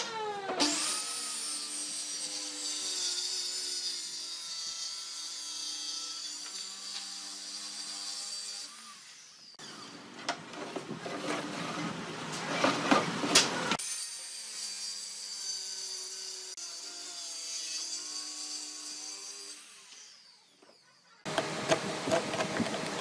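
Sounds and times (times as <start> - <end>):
power tool cutting wood: 0.0 - 10.2, 12.4 - 23.0.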